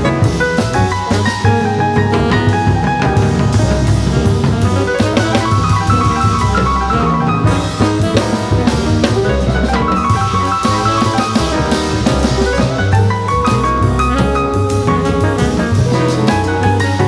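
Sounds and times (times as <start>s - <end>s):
drum kit keeping time: 0.0s - 17.0s
grand piano chords and runs: 0.0s - 17.0s
jazz band playing: 0.0s - 17.0s.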